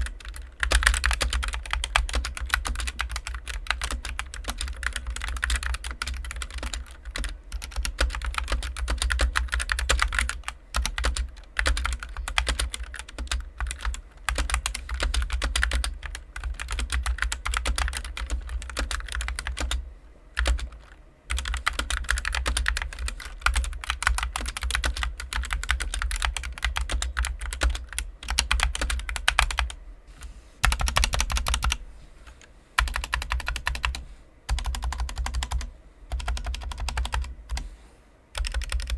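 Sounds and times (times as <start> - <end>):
mechanical keyboard typing: 0.0 - 19.8, 20.4 - 29.8, 30.6 - 31.8, 32.4 - 37.7, 38.4 - 38.9.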